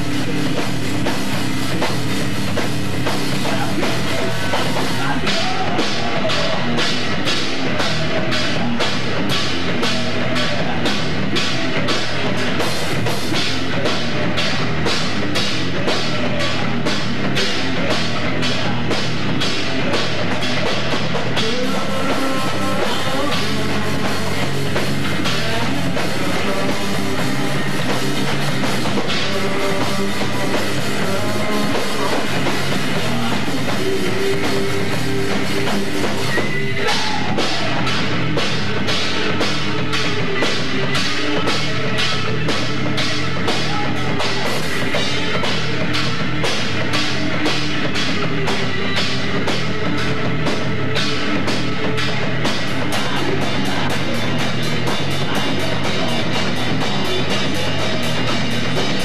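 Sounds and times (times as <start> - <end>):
bass guitar: 0.0 - 59.0
drum kit beat: 0.0 - 59.0
electric guitar: 0.0 - 59.0.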